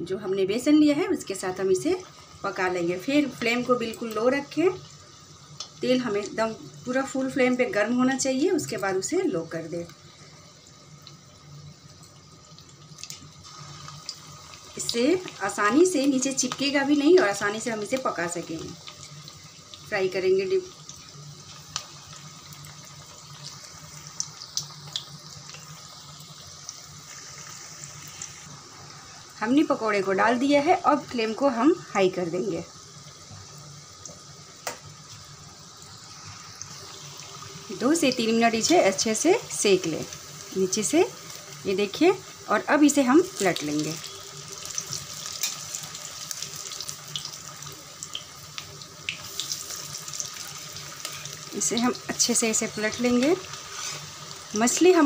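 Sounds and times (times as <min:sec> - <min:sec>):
deep-frying bubbling sizzle: 0:00.0 - 0:55.0.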